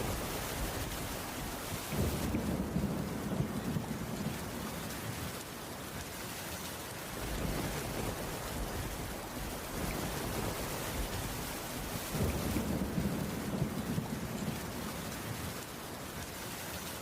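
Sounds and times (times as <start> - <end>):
heavy rain on a wooden roof: 0.0 - 17.0.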